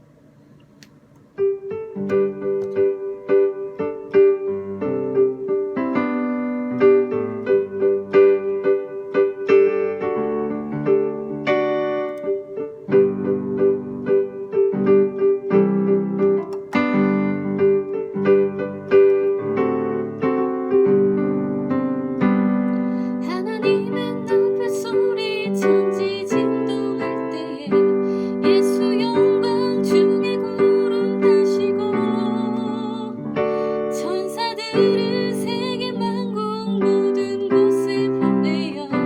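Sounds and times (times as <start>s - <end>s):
piano playing a slow hymn: 1.2s - 39.0s.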